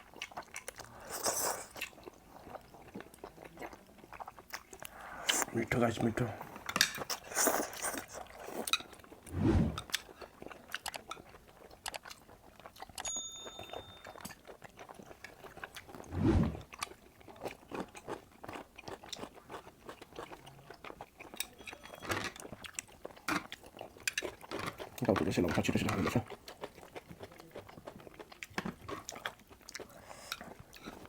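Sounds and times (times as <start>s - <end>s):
wet chewing clicks and smacks: 0.0s - 0.9s, 1.7s - 16.1s, 16.7s - 31.0s.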